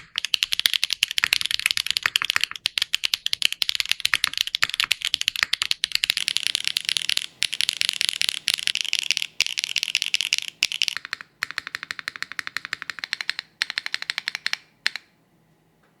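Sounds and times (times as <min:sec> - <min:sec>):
mechanical keyboard clacking: 0:00.0 - 0:15.1.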